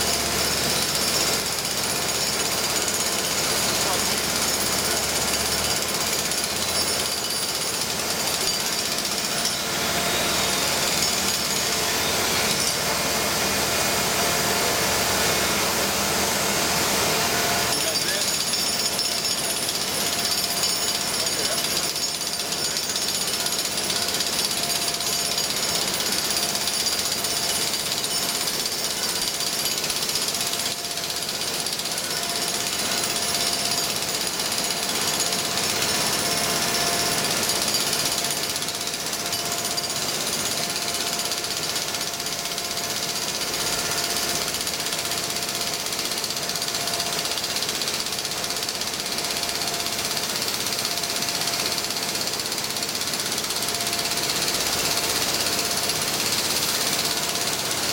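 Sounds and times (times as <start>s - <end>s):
jackhammer on concrete: 0.0s - 57.9s.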